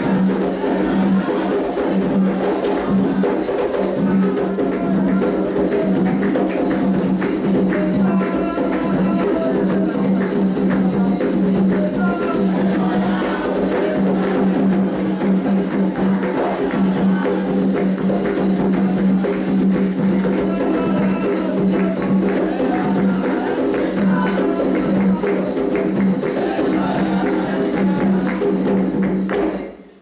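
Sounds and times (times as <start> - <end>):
hand drums playing fast rhythm: 0.0 - 29.8
voices singing: 0.0 - 29.8.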